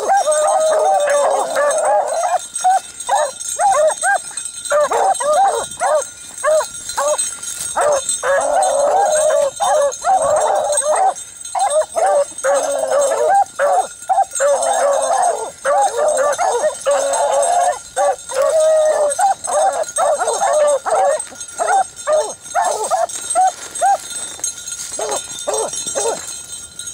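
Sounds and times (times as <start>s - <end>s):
beagles baying: 0.0s - 26.4s.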